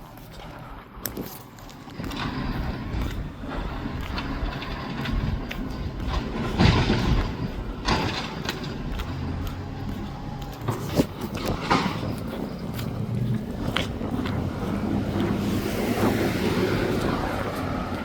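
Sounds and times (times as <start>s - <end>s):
garbage truck engine drone: 0.3s - 18.0s.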